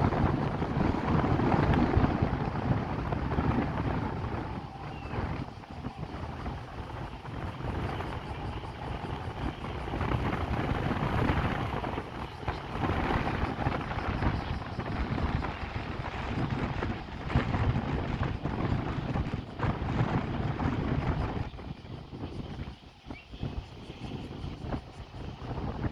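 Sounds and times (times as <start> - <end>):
gusty wind buffeting microphone: 0.0 - 25.9.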